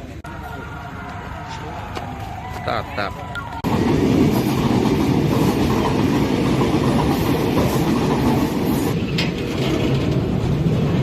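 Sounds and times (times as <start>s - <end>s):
freight train rumbling on rails: 2.0s - 11.0s.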